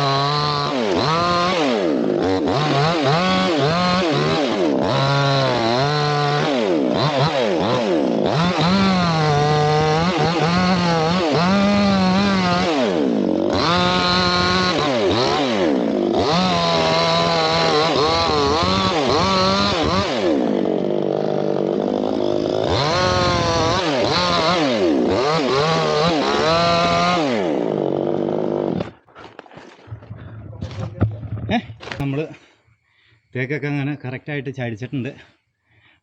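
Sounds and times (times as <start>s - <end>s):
chainsaw cutting wood: 0.0s - 32.1s.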